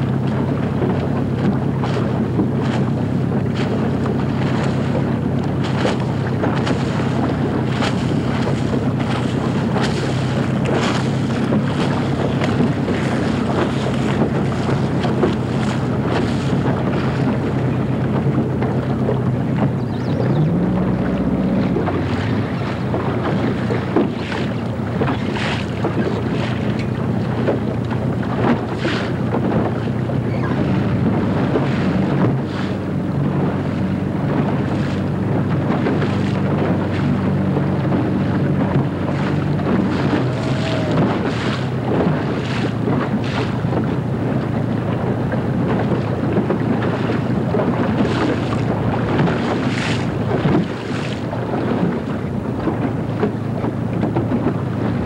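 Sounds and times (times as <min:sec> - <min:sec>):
water splashing: 0:00.0 - 0:55.0
wind buffeting microphone: 0:00.0 - 0:55.0.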